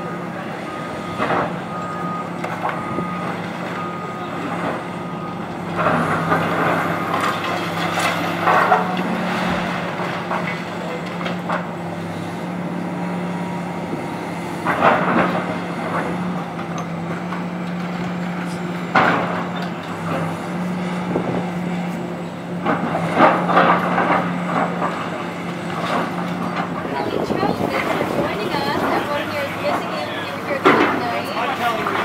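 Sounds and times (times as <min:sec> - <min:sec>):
diesel engine running: 0:00.0 - 0:32.0
masonry and timber crunching: 0:00.5 - 0:13.5, 0:14.5 - 0:32.0.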